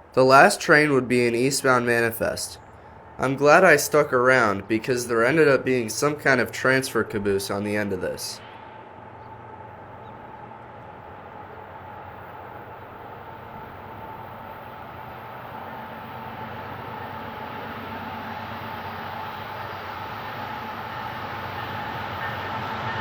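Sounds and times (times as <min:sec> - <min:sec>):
diesel train engine drone: 0:00.0 - 0:23.0.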